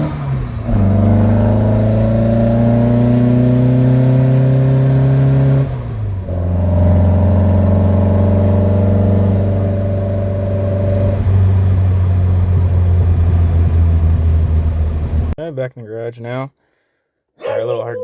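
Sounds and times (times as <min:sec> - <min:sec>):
car engine driving: 0:00.0 - 0:15.4.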